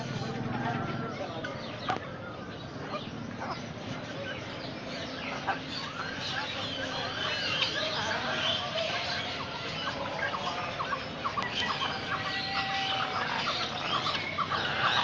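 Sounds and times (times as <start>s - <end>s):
caged birds chirping: 0.0s - 15.0s.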